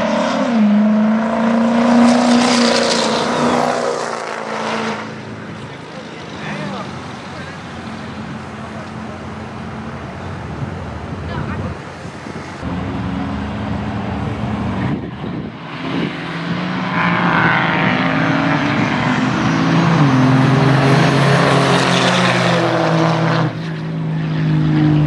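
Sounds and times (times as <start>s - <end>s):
pickup truck engines accelerating: 0.0s - 25.0s.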